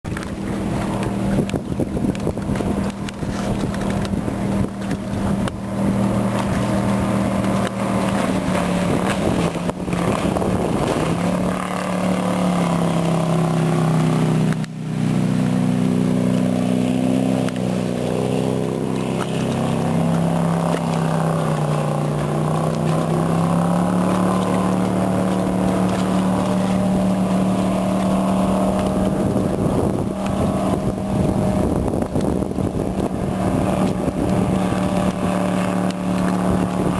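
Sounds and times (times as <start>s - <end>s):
jet boat engine running: 0.0s - 36.9s.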